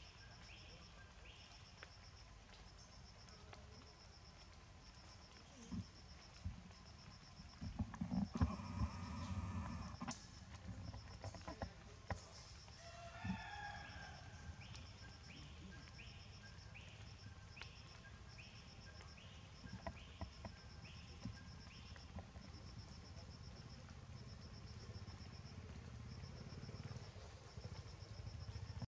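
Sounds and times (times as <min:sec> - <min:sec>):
insect chirping in pulsed trains: 0:00.0 - 0:28.8.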